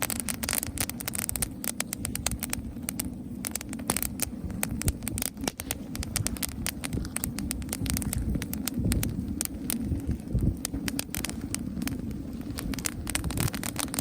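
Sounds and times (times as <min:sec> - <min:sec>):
campfire crackling and popping: 0:00.0 - 0:14.0
fire low rumble: 0:00.0 - 0:14.0.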